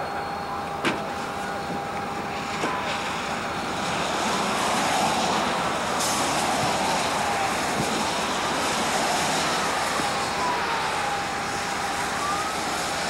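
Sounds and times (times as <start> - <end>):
highway traffic passing: 0.7 - 13.0.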